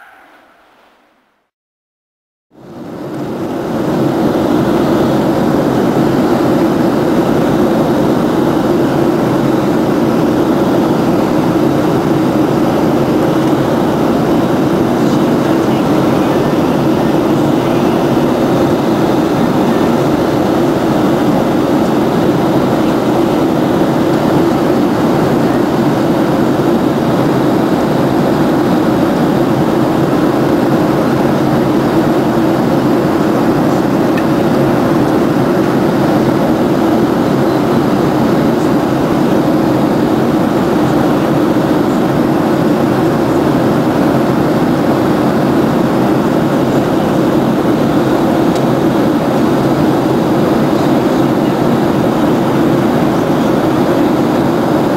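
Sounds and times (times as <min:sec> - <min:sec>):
airplane cabin engine rumble: 0:02.6 - 0:54.9.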